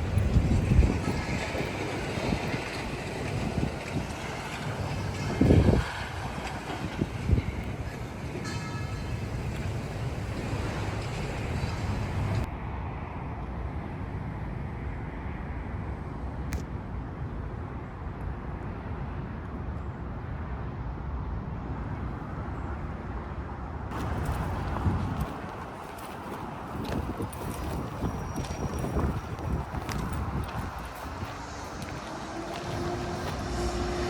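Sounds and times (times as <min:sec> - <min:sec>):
low city rumble: 0:00.0 - 0:34.0.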